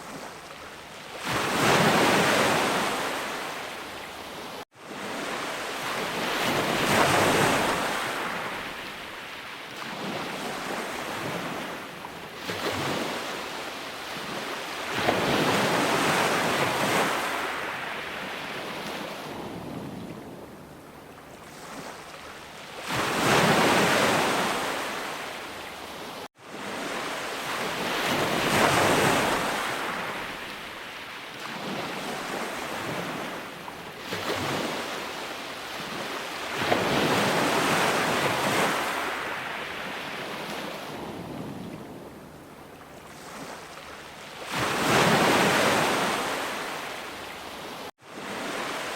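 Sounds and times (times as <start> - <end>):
sea waves breaking: 0.0 - 48.9.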